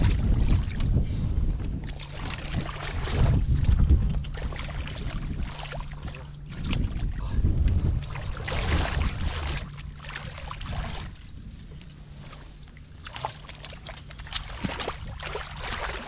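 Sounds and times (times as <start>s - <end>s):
wind buffeting microphone: 0.0s - 13.0s
hands splashing in muddy water: 1.8s - 7.2s, 7.8s - 16.0s.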